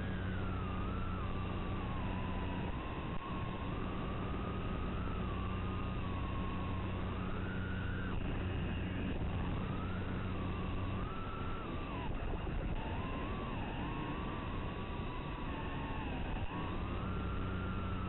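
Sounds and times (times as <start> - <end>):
drone motors whining: 0.0 - 18.0
steady low hum: 0.0 - 18.0.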